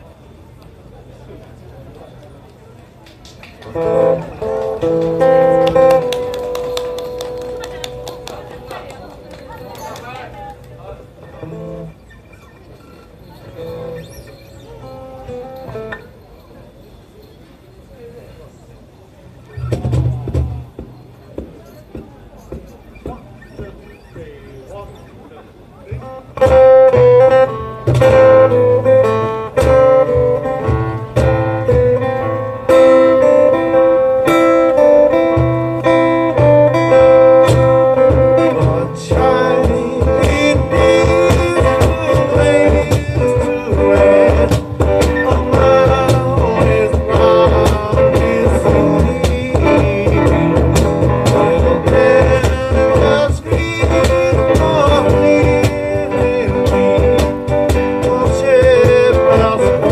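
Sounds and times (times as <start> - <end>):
cajon percussion: 3.0 - 16.3, 19.4 - 59.9
acoustic guitar: 3.6 - 17.0, 19.5 - 59.9.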